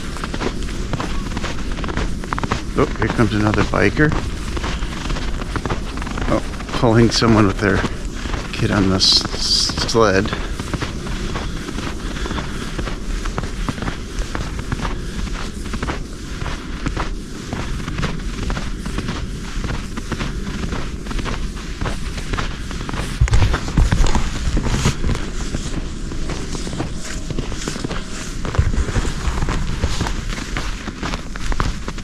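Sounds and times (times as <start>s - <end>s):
footsteps crunching in snow: 0.0s - 32.0s
wind buffeting microphone: 0.0s - 32.0s.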